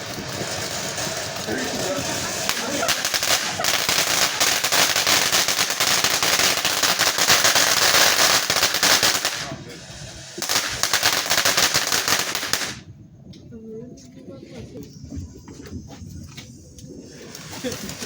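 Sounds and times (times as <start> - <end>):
fireworks crackling: 0.0 - 13.6, 14.6 - 18.0.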